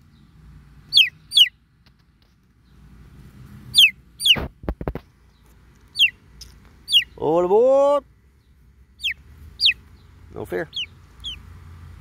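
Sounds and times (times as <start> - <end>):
baby chicks peeping: 0.0 - 2.9, 3.6 - 11.6.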